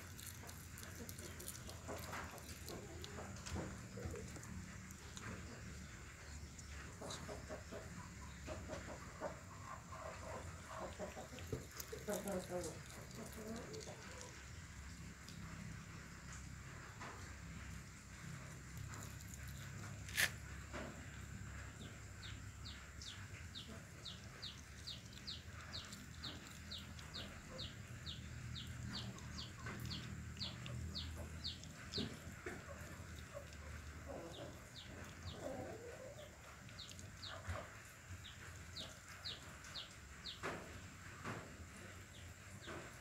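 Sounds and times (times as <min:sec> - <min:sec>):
mongoose chewing: 0:00.0 - 0:41.9.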